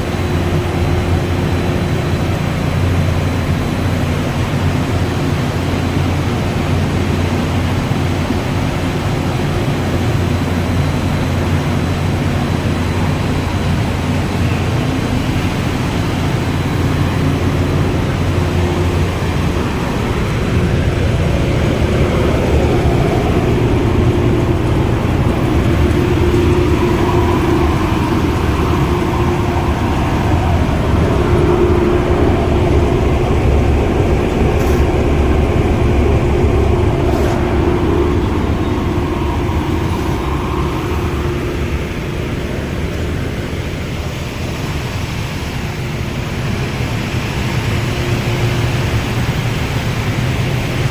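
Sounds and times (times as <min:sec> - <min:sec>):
faint wavering hum: 0:00.0 - 0:50.9
machine rumble: 0:00.0 - 0:50.9.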